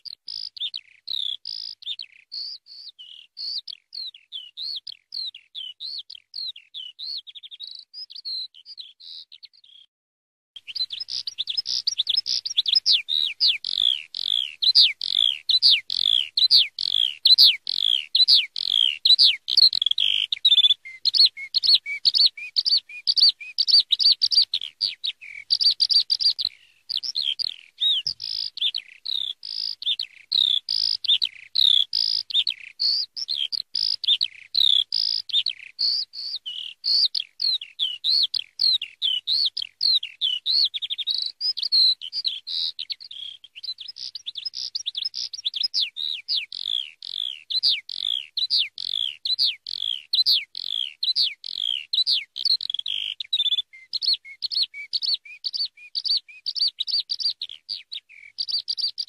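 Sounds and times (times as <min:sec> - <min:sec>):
skylark singing: 0:00.0 - 0:09.9, 0:10.6 - 0:59.0.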